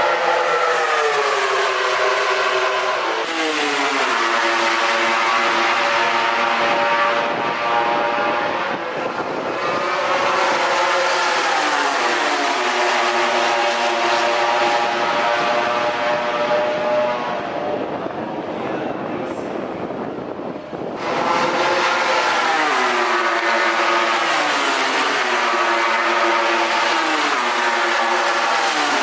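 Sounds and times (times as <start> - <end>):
racing motorcycle engines revving: 0.0 - 29.0.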